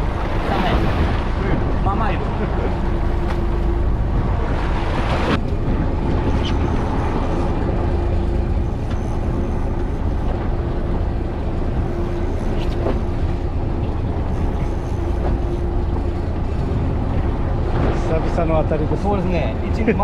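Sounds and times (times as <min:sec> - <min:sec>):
wind on microphone: 0:00.0 - 0:18.4
boat engine running: 0:00.0 - 0:20.0.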